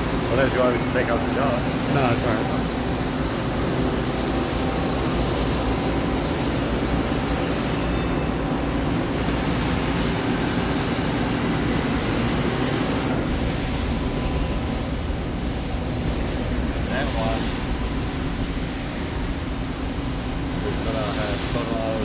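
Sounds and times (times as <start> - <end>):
machine hum and hiss: 0.0 - 22.0.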